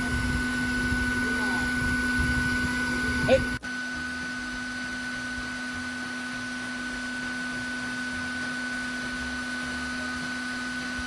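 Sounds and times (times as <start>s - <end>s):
vacuum whining: 0.0s - 11.0s.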